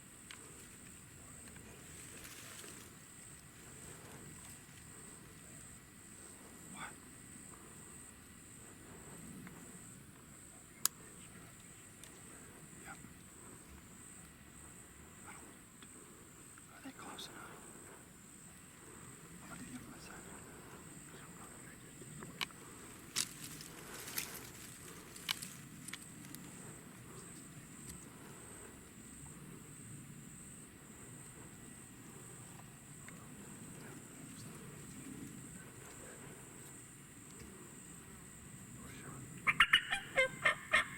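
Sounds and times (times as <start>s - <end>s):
faint low outdoor rumble: 0.0s - 40.9s
insects trilling: 0.0s - 40.9s.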